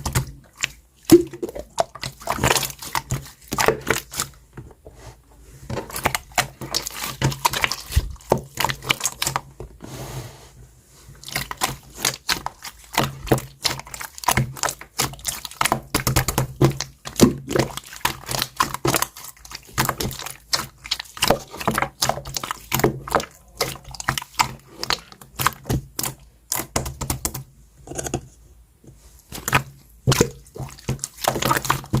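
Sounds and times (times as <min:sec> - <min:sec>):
slime squished by hand: 0:00.0 - 0:04.4, 0:05.9 - 0:09.5, 0:11.2 - 0:27.4, 0:29.2 - 0:32.0.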